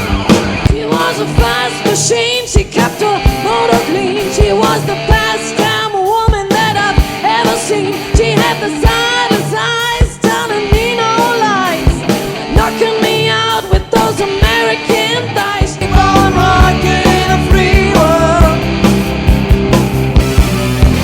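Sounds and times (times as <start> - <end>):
pop-rock band playing: 0.0 - 21.0
person singing: 0.7 - 18.7.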